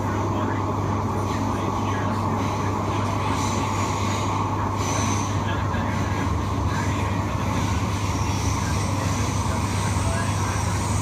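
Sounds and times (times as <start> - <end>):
train rumble and hum: 0.0 - 11.0.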